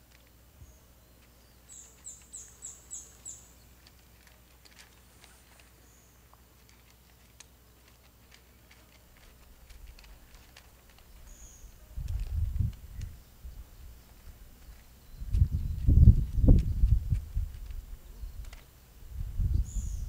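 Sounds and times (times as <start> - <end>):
cat crunching dry kibble: 1.1 - 18.8.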